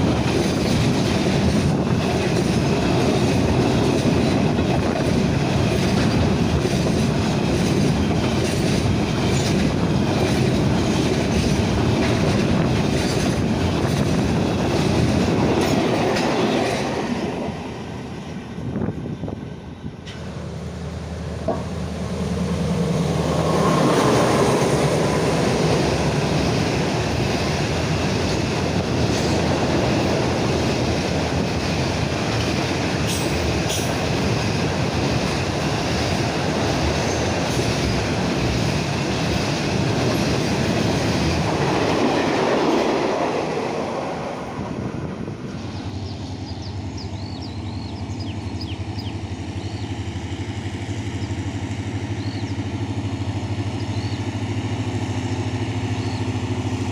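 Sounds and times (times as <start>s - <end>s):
train passing close by: 0.0s - 56.9s.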